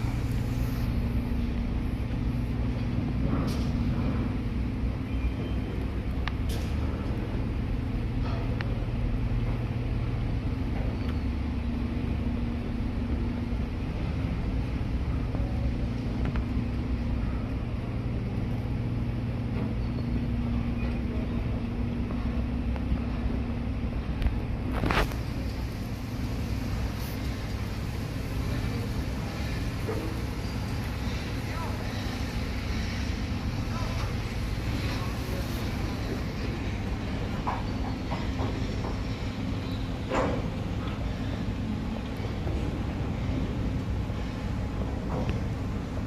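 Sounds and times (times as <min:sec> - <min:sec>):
low engine drone: 0:00.0 - 0:46.0.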